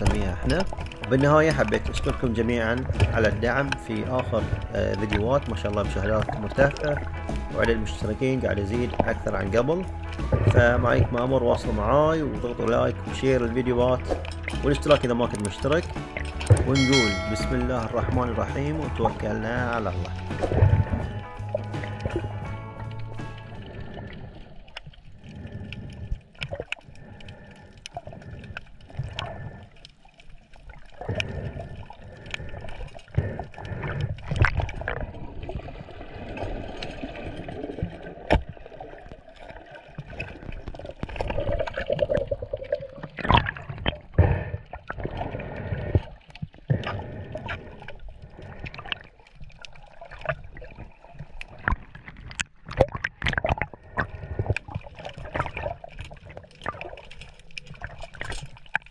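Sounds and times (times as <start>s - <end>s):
seawater sloshing and gurgling: 0.0s - 58.9s.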